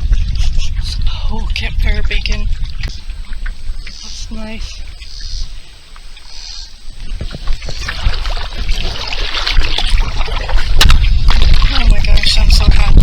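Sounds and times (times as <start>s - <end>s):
paddle splashing water: 0.0s - 13.0s.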